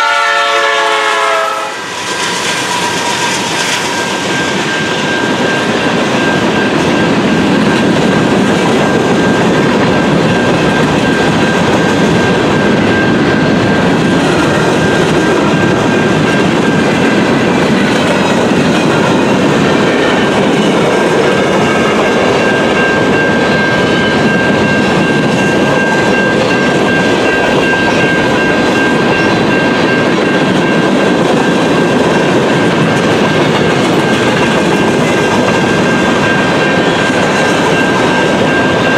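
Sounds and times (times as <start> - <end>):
train cars rumbling past: 0.0 - 38.9.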